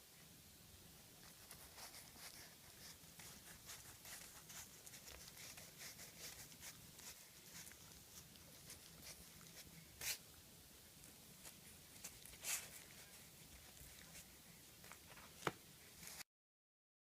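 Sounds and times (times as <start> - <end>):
low room hum: 0.0 - 16.2.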